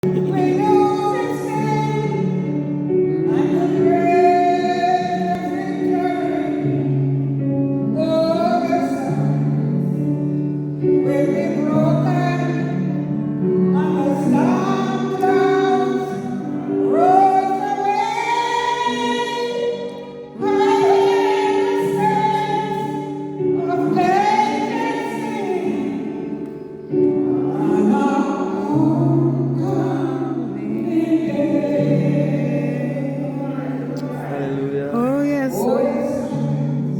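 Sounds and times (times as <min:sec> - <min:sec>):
choir singing gospel: 0:00.0 - 0:06.9, 0:13.6 - 0:36.9.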